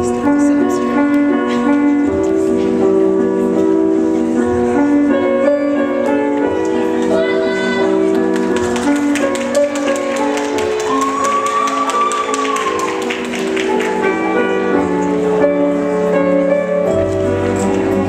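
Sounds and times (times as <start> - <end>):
slow waltz music: 0.0 - 18.0.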